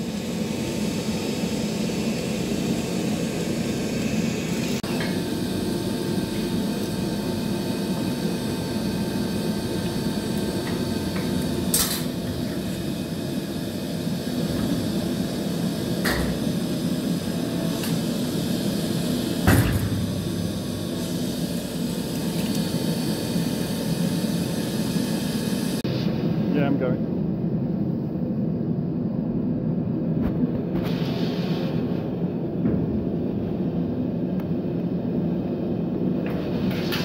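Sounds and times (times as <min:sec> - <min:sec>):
steady machine roar: 0:00.0 - 0:37.0.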